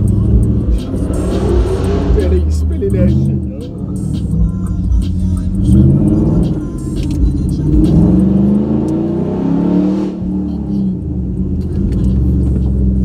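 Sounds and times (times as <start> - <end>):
loud music: 0.0 - 11.0
car engine revving: 0.0 - 13.0.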